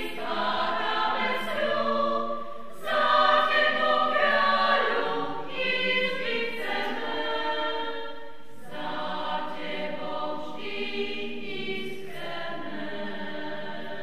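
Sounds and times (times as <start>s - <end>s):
women's choir singing in harmony: 0.0s - 14.0s.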